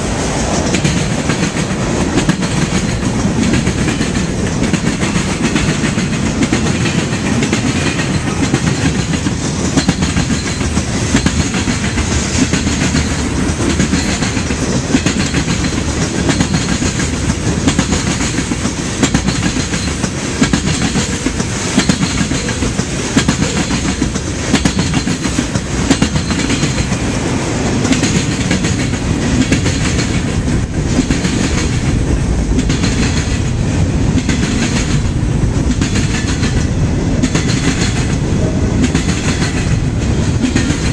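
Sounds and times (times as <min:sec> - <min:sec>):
freight train cars rolling: 0:00.0 - 0:40.9
wheels clicking over rail joints: 0:00.7 - 0:27.1, 0:27.7 - 0:40.9.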